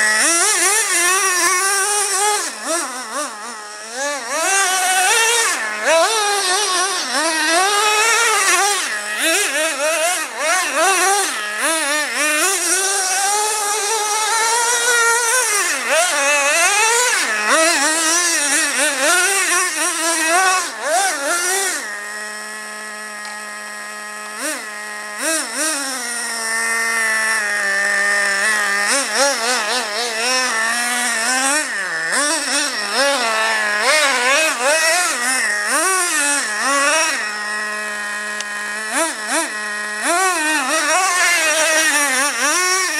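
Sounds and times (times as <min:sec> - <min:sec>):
model truck engine revving: 0:00.0 - 0:42.9.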